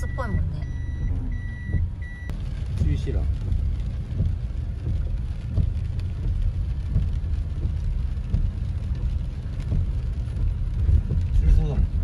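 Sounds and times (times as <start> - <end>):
engine and tyre rumble: 0.0 - 12.0
rain on car: 0.0 - 12.0.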